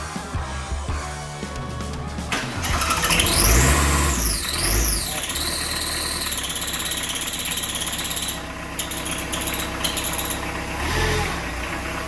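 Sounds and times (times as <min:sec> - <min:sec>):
tractor diesel engine idling: 0:01.5 - 0:12.0.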